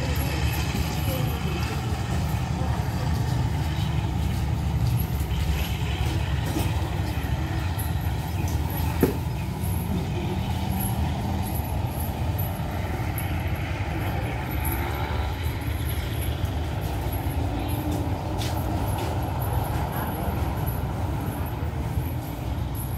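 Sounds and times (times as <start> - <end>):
diesel train engine idling: 0.0 - 22.9.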